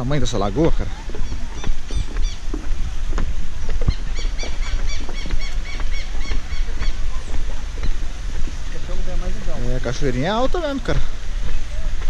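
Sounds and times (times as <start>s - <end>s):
bird chirping: 0.0s - 10.1s
footsteps on wooden boardwalk: 0.0s - 12.0s
wind on microphone: 0.0s - 12.0s.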